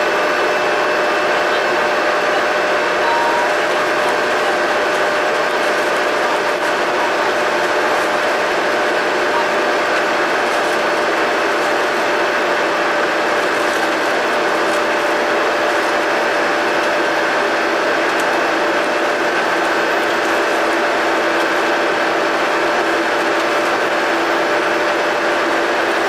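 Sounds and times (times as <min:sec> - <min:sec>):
bus engine running with whine: 0:00.0 - 0:26.0.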